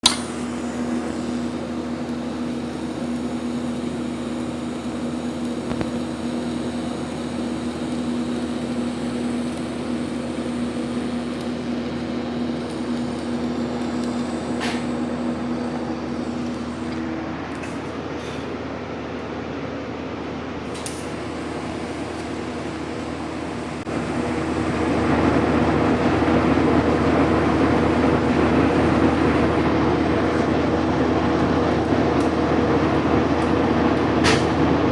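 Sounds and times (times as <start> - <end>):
welding hiss: 0.0 - 17.9, 20.6 - 31.2
welder humming: 0.0 - 18.4, 20.6 - 34.9.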